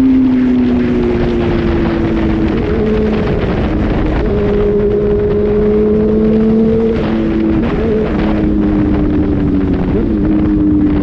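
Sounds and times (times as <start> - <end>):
road and wind rush: 0.0 - 11.0
vehicle engine droning: 0.0 - 11.0.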